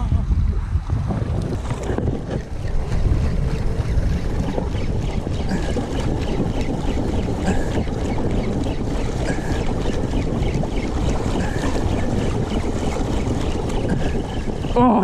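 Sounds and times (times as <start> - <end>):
water lapping against boat hull: 0.0 - 15.0
wind buffeting microphone: 0.0 - 15.0.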